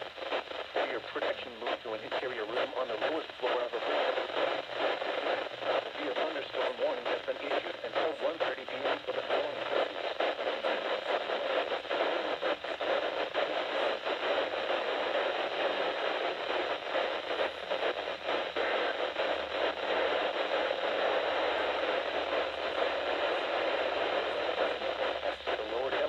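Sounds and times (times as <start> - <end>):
faint radio crackling: 0.0 - 26.0
radio static hiss: 0.0 - 26.0.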